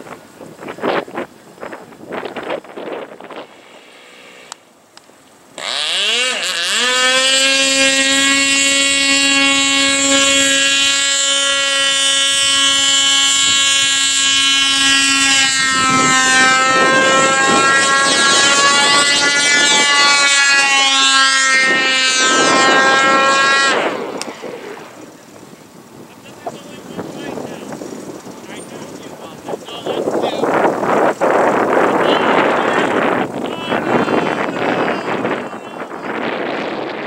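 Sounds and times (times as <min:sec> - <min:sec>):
model airplane motor running: 0:05.4 - 0:37.0.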